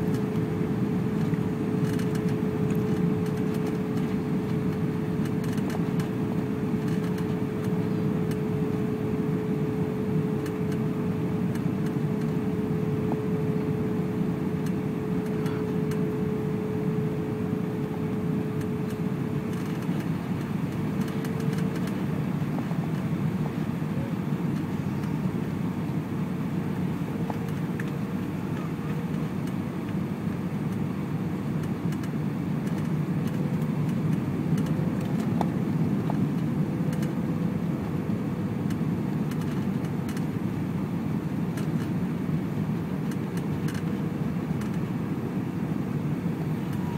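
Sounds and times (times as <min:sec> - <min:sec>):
engines and airflow rushing: 0:00.0 - 0:46.9
steady engine whine: 0:00.0 - 0:46.9.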